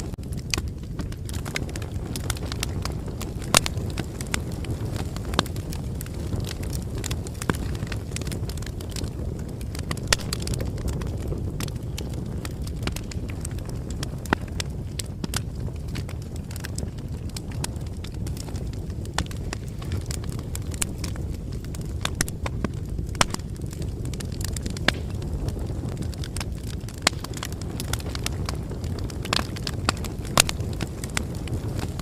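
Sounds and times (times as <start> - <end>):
bonfire crackling: 0.0 - 32.0
burning wood popping: 0.0 - 32.0.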